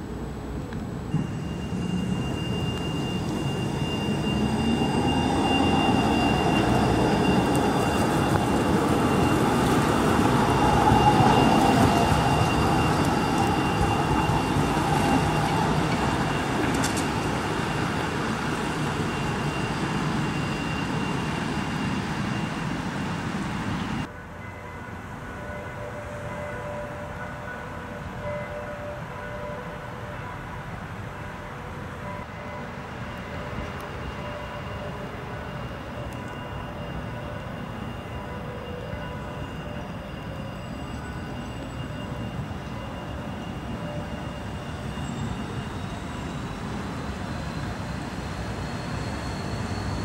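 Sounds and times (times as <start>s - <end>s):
thin high whine: 0.0s - 24.5s, 32.0s - 50.0s
tram rolling past: 0.0s - 50.0s.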